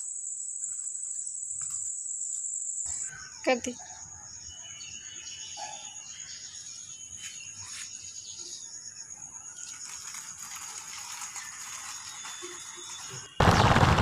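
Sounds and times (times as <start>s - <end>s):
high-pitched insect drone: 0.0s - 5.5s, 7.6s - 14.0s
faint bird chirps: 0.0s - 10.2s, 11.1s - 13.7s.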